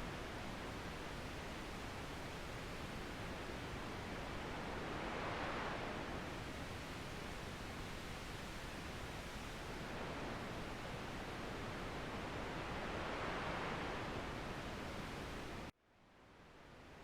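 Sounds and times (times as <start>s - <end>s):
sea: 0.0s - 17.0s
wind: 0.0s - 17.0s.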